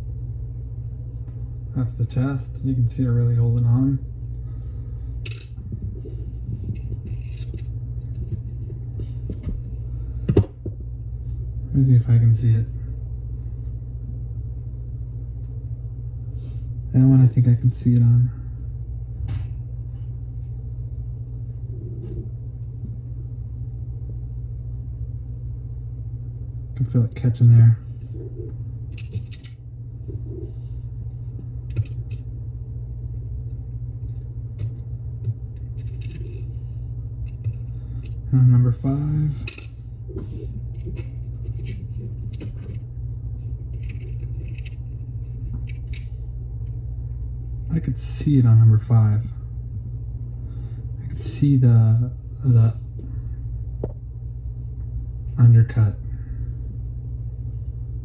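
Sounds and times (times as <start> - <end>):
low background hum: 0.0 - 58.0.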